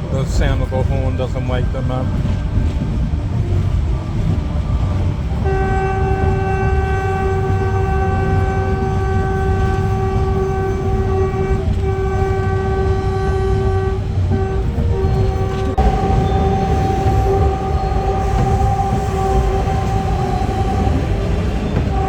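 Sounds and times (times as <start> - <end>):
rumble of moving train: 0.0 - 22.0
train horn: 1.6 - 22.0.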